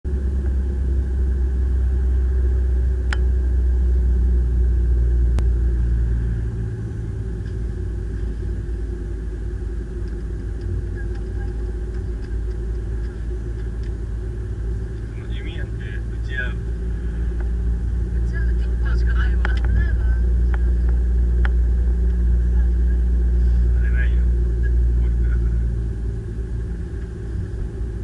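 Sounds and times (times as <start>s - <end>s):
car engine and tyre rumble: 0.0s - 28.0s.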